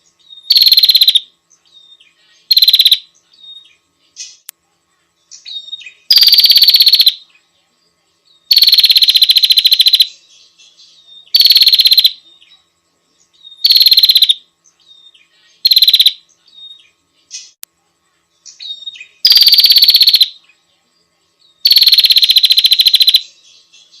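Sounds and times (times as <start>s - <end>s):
bird buzzy trills: 0.0s - 4.5s, 5.1s - 7.6s, 8.4s - 17.6s, 18.2s - 24.0s
soft bird chirps: 0.0s - 24.0s.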